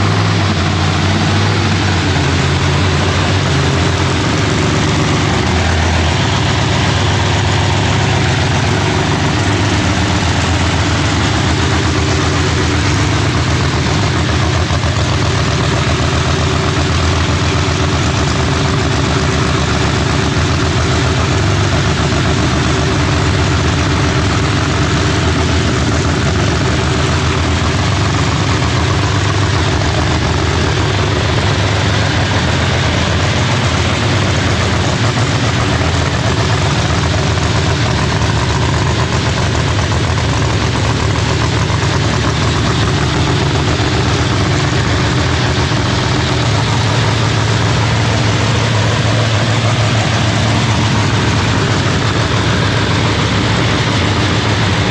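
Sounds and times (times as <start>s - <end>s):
drag race engine idling loudly: 0.0s - 54.9s.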